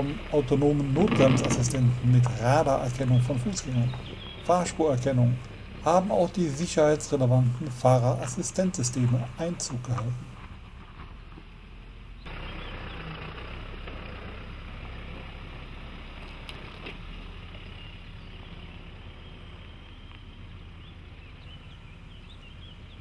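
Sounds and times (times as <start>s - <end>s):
diesel pickup engine at low revs: 0.0s - 23.0s.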